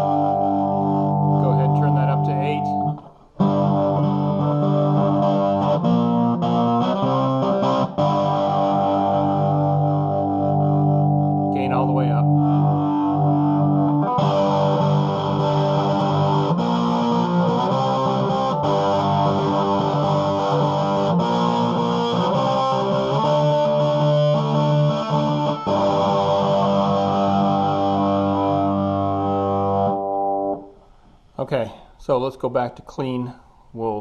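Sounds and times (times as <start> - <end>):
distorted electric guitar chords: 0.0 - 30.8.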